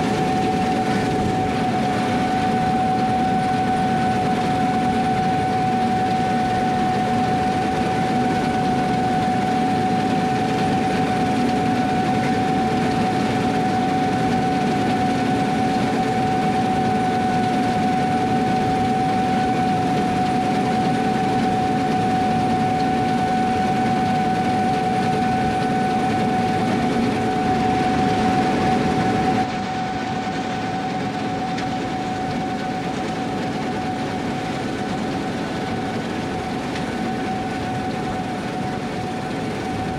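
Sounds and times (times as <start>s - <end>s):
combine harvester running: 0.0s - 39.9s
high-pitched machinery whine: 0.0s - 39.9s.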